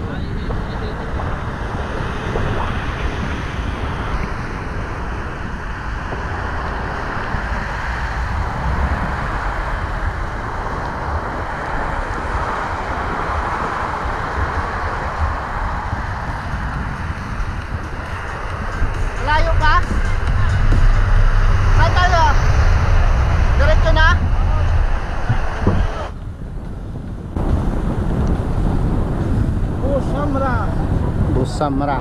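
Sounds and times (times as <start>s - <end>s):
engine and road rumble: 0.0s - 32.0s
wind on microphone: 0.0s - 32.0s.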